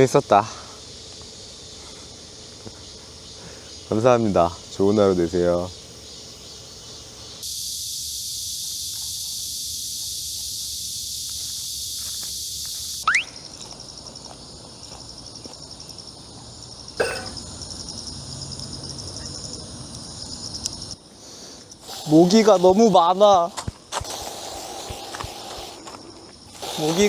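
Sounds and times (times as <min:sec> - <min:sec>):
cicadas buzzing: 0:00.0 - 0:27.0
pulsing insect trill: 0:00.0 - 0:27.0.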